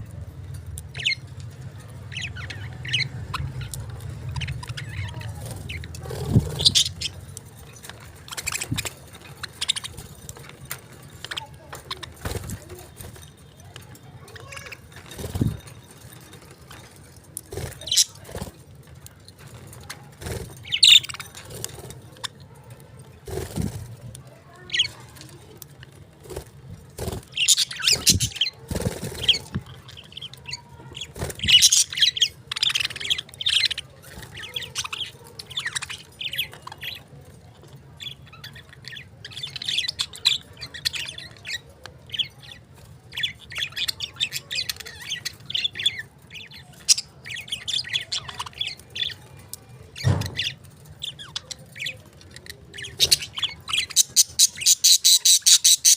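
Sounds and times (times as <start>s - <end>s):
parrots chirping: 0.0s - 23.3s, 26.8s - 55.9s.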